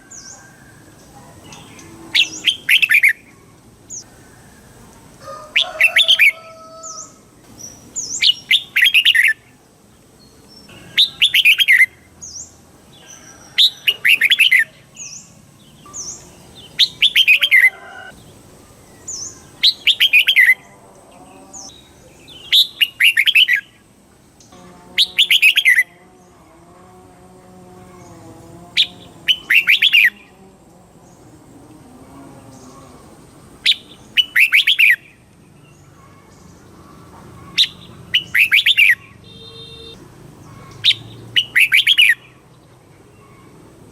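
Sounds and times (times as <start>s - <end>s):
bulbul singing: 0.0s - 4.2s, 5.6s - 26.6s, 27.4s - 30.4s, 32.4s - 43.7s.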